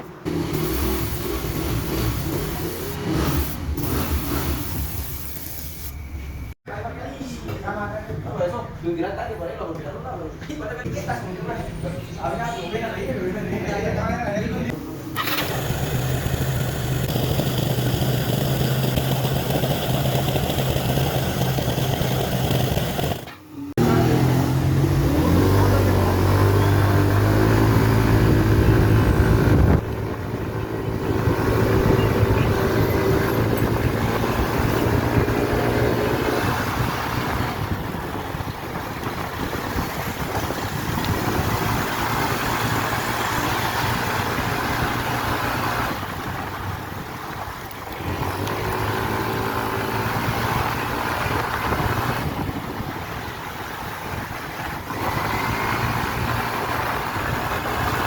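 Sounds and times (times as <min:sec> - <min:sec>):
scooter engine running: 0:00.0 - 0:05.4, 0:14.8 - 0:58.0.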